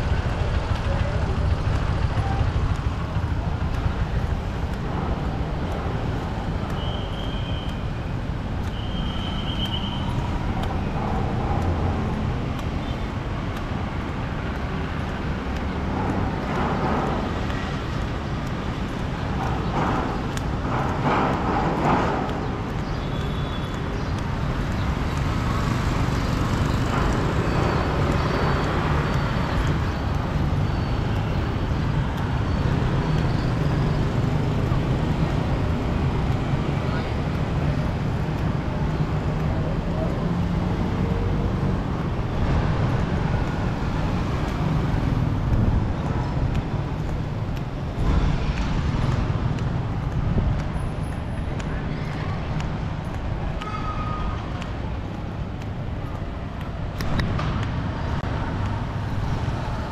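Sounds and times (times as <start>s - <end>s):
traffic engine hum: 0.0s - 59.9s.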